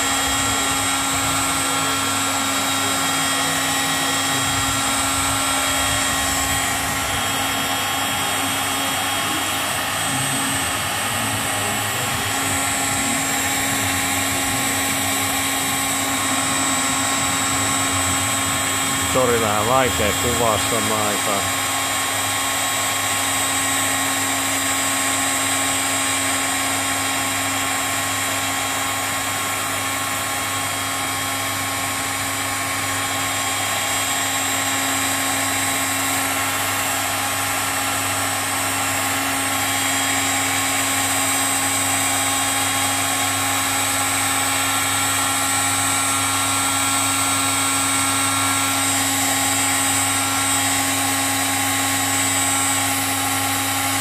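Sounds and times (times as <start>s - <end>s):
hot air gun whirring: 0.0s - 54.0s.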